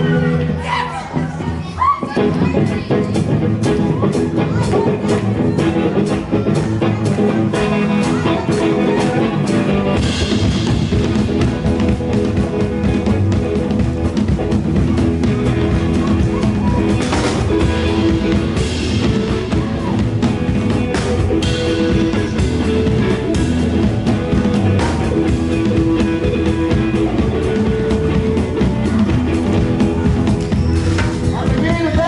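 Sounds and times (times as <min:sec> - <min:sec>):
live band playing: 0:00.0 - 0:32.0.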